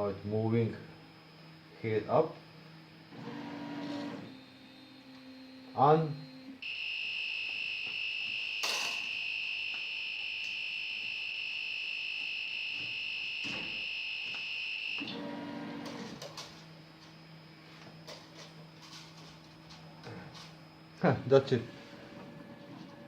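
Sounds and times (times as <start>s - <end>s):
long high-pitched printer beep: 0.0s - 23.0s.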